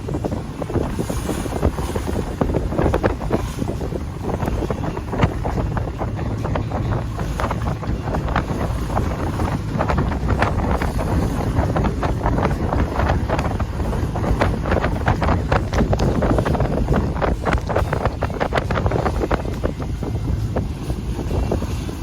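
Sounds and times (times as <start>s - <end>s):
water splashing: 0.0s - 22.0s
wind buffeting microphone: 0.0s - 22.0s.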